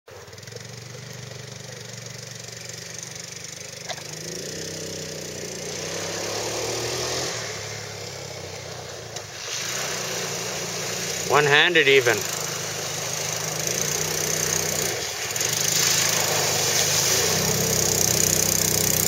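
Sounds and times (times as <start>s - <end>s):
atv engine revving: 0.1s - 19.0s.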